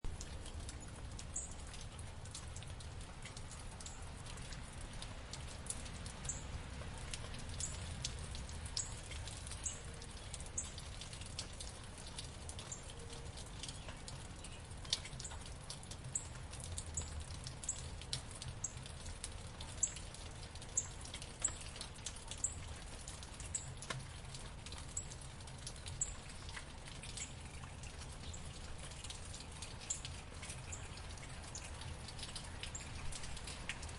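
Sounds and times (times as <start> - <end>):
raindrops ticking on surfaces: 0.0 - 33.9
steady rain falling: 0.0 - 33.9.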